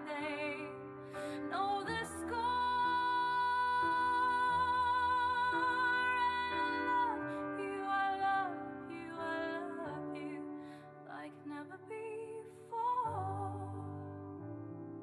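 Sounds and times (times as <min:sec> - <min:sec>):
woman singing slow song: 0:00.0 - 0:14.1.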